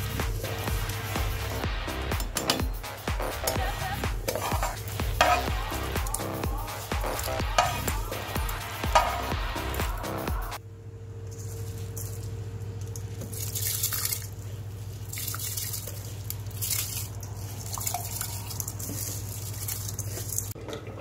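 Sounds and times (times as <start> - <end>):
water dripping and splashing: 0.0 - 9.9, 12.8 - 21.0
steady low hum: 0.0 - 20.6.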